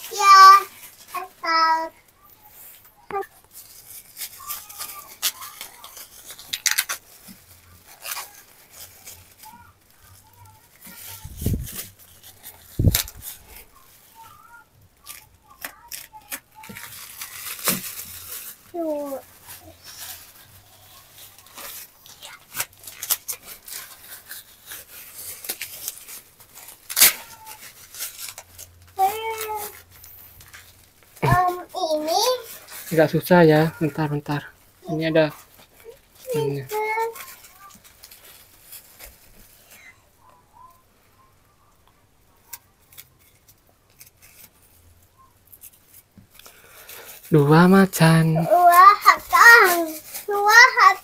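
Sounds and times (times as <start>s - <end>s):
plastic wrapping crinkling and tearing: 0.0s - 40.8s, 42.3s - 51.0s.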